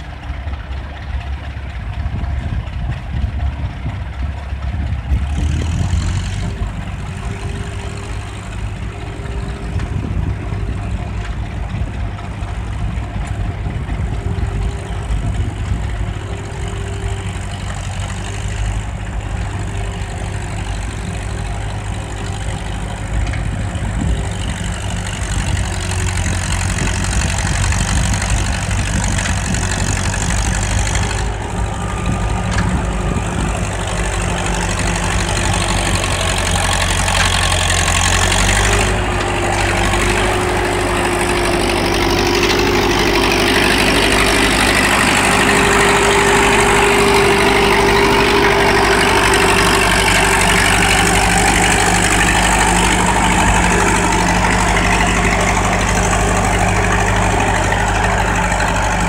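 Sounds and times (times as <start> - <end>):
grader engine running: 0.0 - 59.0
blade working soil: 3.5 - 59.0.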